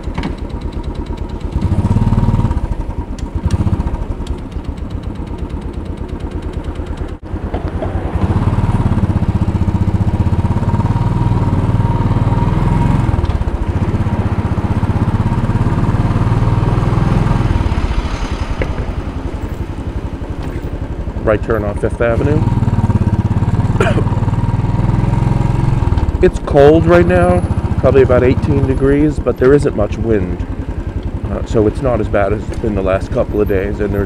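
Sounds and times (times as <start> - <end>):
motorcycle engine under throttle: 0.0 - 34.0.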